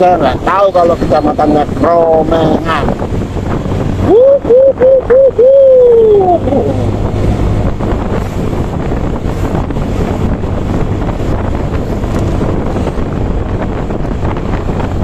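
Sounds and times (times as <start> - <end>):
road noise: 0.0 - 15.0
vehicle engine hum: 0.0 - 15.0
wind buffeting microphone: 0.0 - 15.0.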